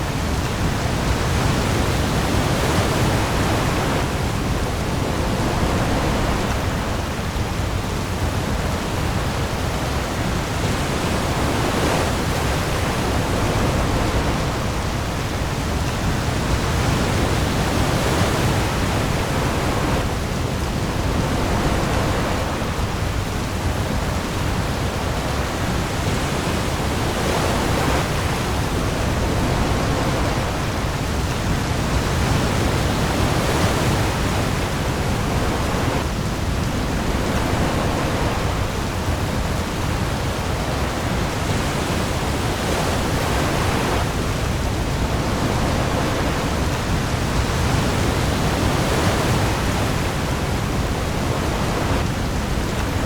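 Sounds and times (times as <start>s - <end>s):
heavy rain on the sea: 0.0s - 53.0s
waves: 0.0s - 53.0s.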